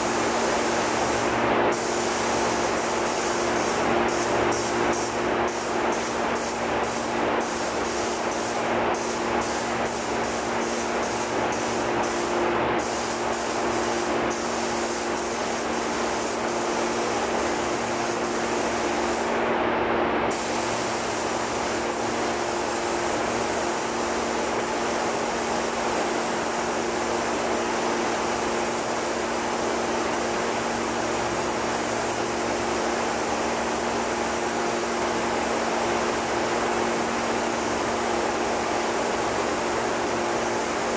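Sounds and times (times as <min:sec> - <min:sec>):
paint spray gun hissing: 0:00.0 - 0:19.4, 0:20.3 - 0:40.9
steady hum: 0:00.0 - 0:40.9.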